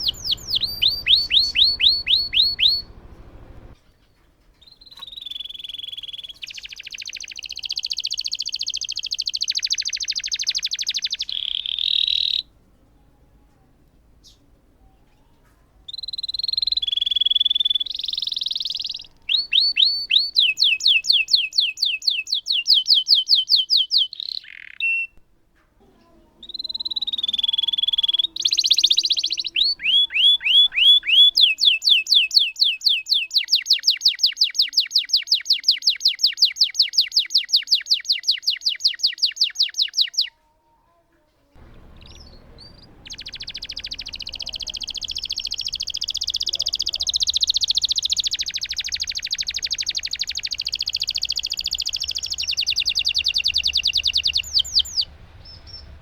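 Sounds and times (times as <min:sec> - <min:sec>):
canary singing trills and chirps: 0:00.0 - 0:13.5, 0:14.1 - 0:25.2, 0:26.3 - 0:40.4, 0:41.6 - 0:56.0.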